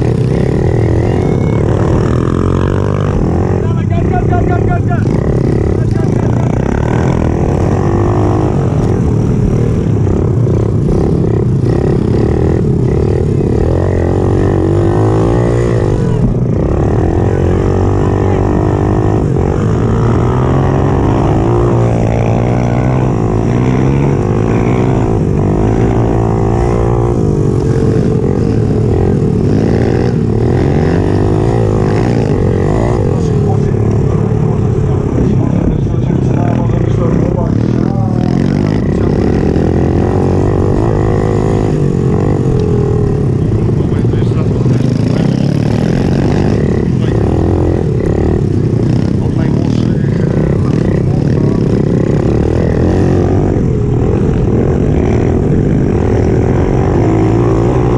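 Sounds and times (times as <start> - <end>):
pit bike engine revving: 0.0 - 57.9.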